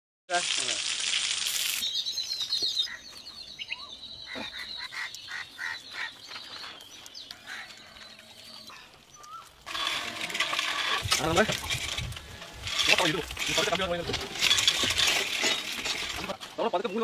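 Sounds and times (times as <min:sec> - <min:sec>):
birds chirping: 0:01.4 - 0:17.0.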